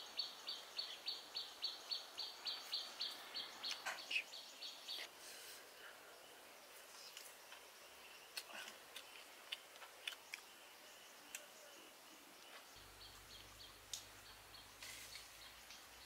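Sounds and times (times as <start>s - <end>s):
faint steady high hiss: 0.0s - 16.0s.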